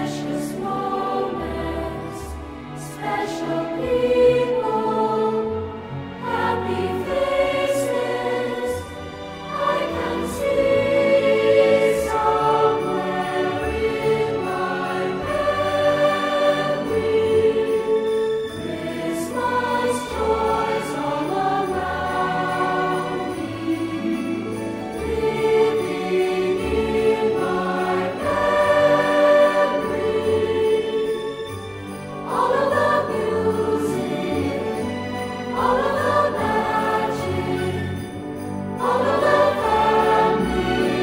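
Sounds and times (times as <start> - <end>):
choir singing long notes: 0.0 - 41.0.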